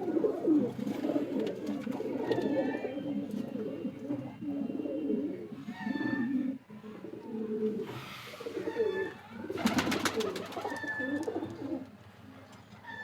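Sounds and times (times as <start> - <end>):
pigeons cooing: 0.0 - 11.9.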